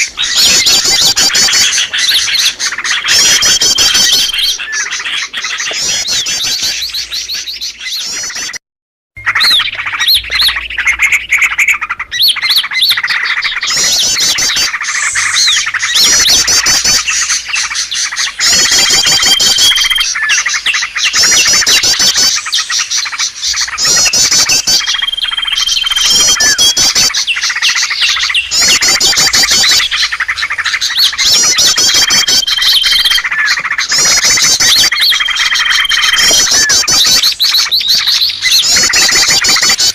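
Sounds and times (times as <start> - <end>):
small songbirds chirping: 0.0 - 8.6, 9.2 - 39.9.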